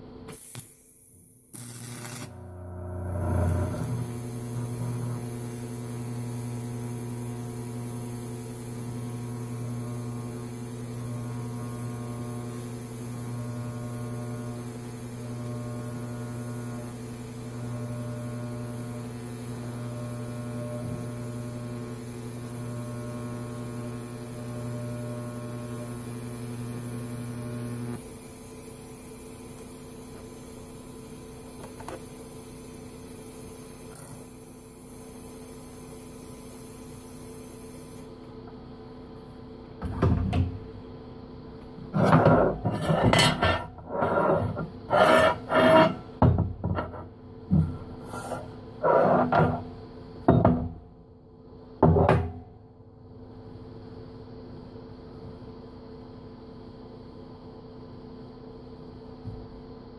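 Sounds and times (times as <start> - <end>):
welding arc humming: 0.0 - 39.8, 40.6 - 50.2
faint welder hum: 0.0 - 59.9.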